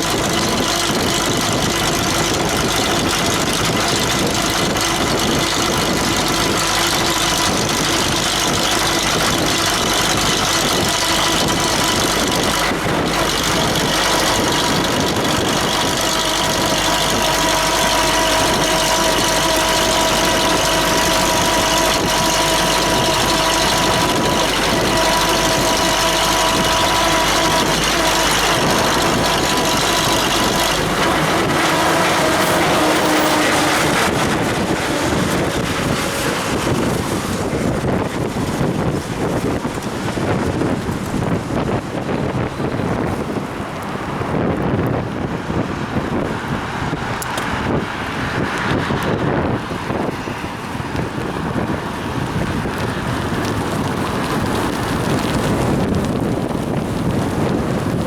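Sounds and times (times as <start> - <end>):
vehicle motor whine: 0.0 - 58.0
wind on microphone: 0.0 - 58.0.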